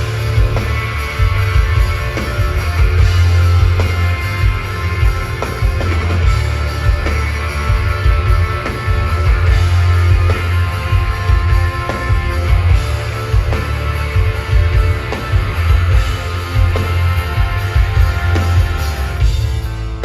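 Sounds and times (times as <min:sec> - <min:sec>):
heavy rock music: 0:00.0 - 0:20.0.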